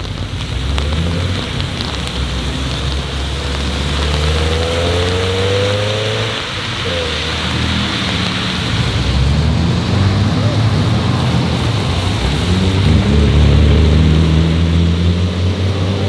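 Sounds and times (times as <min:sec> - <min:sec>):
car engine accelerating: 0:00.0 - 0:16.0
tyres hissing on wet asphalt: 0:00.0 - 0:16.0.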